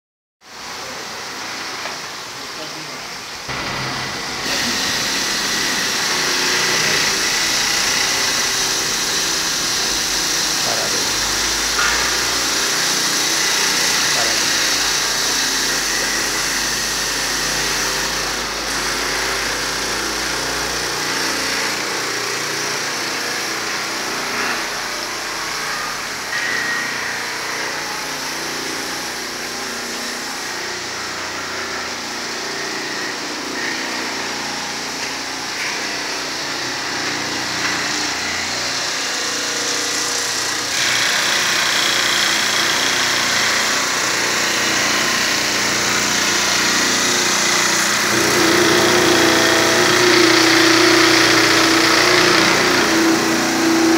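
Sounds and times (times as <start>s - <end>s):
stone polishing machine hum and grind: 0.5s - 53.9s.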